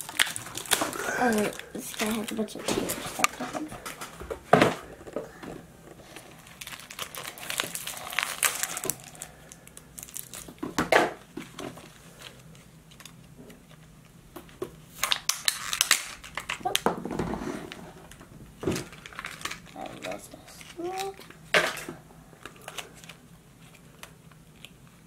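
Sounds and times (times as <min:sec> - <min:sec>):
plastic packaging crinkling and tearing: 0:00.0 - 0:04.2, 0:06.0 - 0:14.1, 0:14.8 - 0:16.8, 0:17.7 - 0:25.0.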